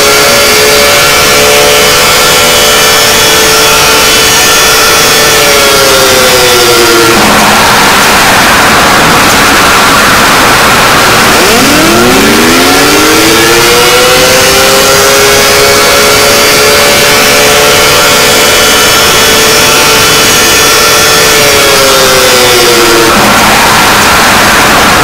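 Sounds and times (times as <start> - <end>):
siren-like alarm tone: 0.0 - 25.0
steady high tone: 0.0 - 25.0.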